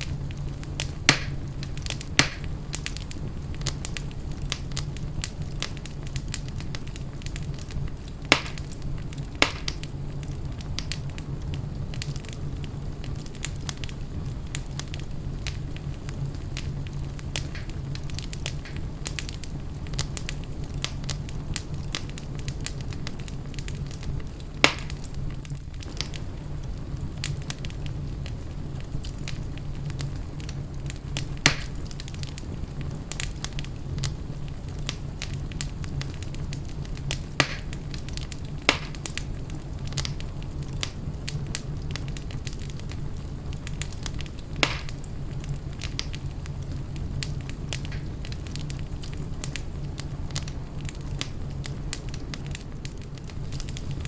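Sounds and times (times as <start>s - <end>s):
sharp pops from fire: 0.0s - 54.0s
wood fire crackling: 0.0s - 54.0s.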